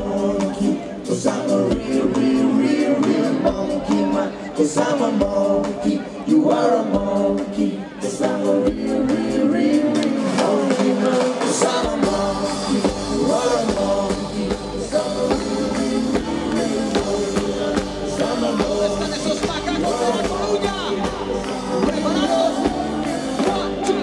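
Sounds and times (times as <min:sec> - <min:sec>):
live band playing: 0:00.0 - 0:24.0
man singing into microphone: 0:00.0 - 0:24.0.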